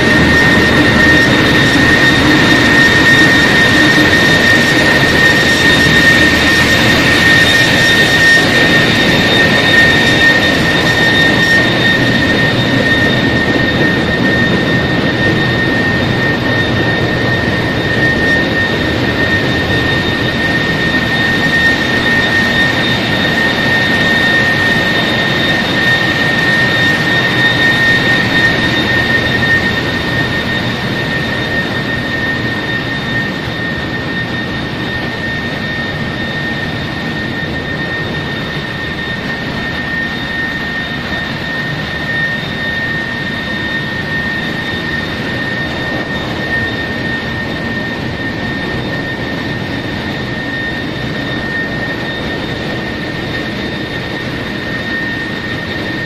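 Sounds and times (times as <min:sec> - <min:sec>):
constant high whine: 0:00.0 - 0:56.0.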